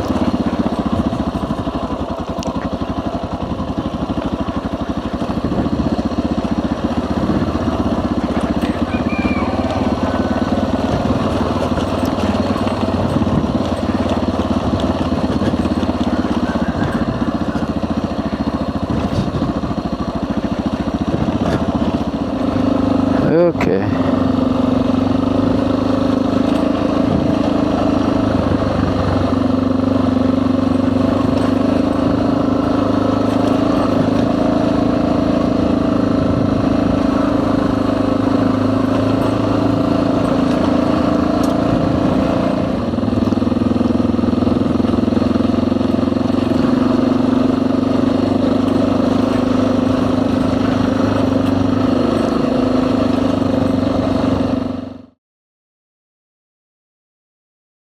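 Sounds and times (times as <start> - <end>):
motorcycle engine running: 0.0 - 55.2.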